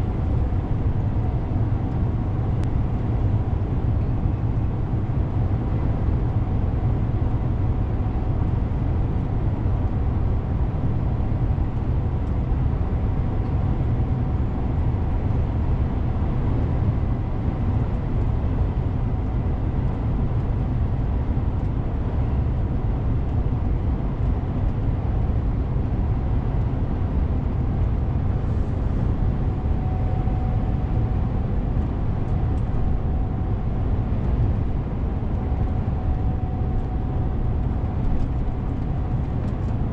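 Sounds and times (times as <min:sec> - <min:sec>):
road noise: 0:00.0 - 0:39.9
truck diesel engine rumble: 0:00.0 - 0:39.9.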